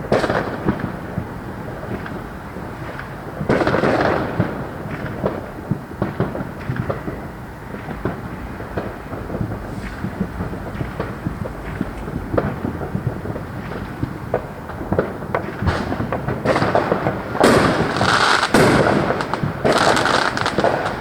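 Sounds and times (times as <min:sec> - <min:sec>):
firework bangs: 0:00.0 - 0:21.0
fireworks crackling: 0:00.0 - 0:21.0
rumble of booms: 0:00.1 - 0:21.0.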